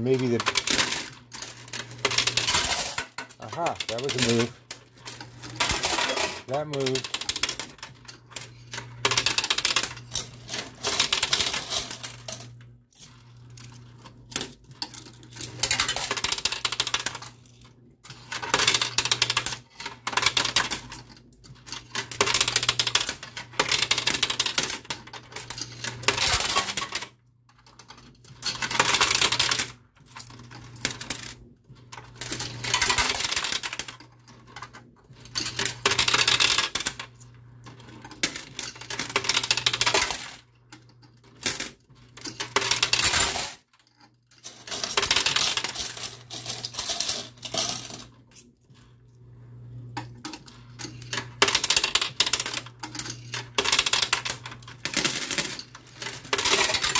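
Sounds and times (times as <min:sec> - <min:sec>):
coins clattering in coin pusher: 0:00.0 - 0:48.9, 0:49.9 - 0:56.9.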